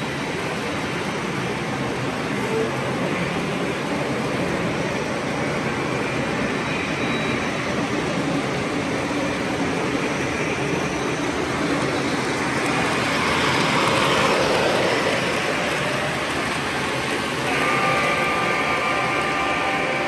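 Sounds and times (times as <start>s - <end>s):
model trains rumbling on track: 0.0s - 20.0s.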